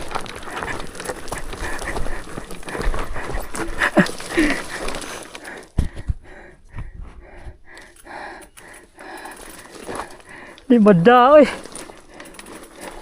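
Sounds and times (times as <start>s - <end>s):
person panting: 0.0s - 10.7s, 11.3s - 13.0s.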